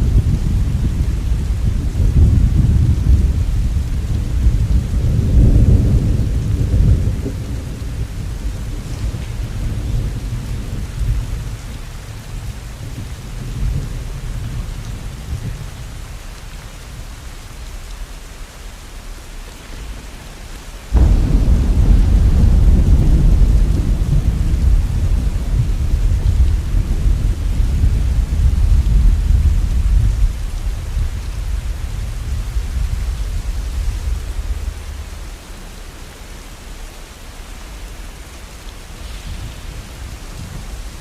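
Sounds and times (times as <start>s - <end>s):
rolling thunder: 0.0s - 16.2s, 20.9s - 36.9s, 38.1s - 41.0s
steady rain: 0.0s - 41.0s.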